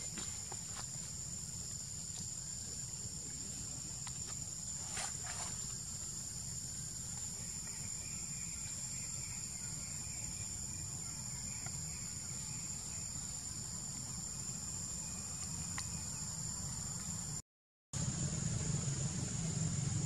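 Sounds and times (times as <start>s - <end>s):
insects droning in trees: 0.0s - 17.4s, 18.0s - 20.0s.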